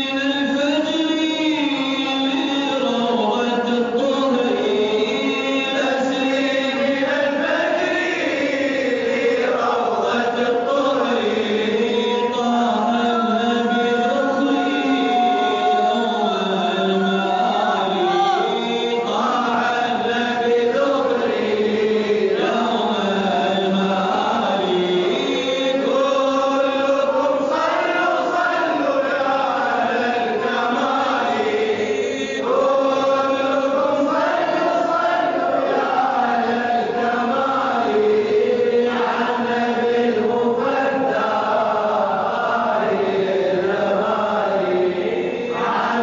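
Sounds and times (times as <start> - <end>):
man chanting devotional song: 0.0 - 46.0.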